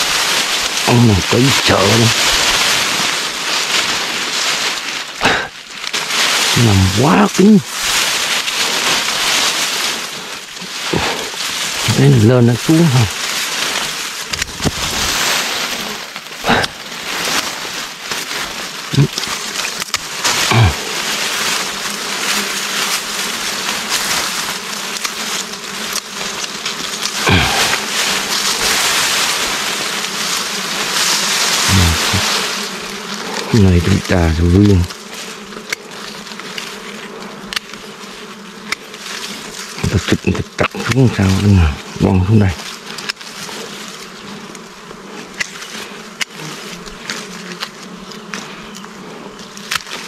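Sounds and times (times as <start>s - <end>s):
grass and dry leaves rustling: 0.0s - 50.0s
insect buzz: 0.0s - 50.0s.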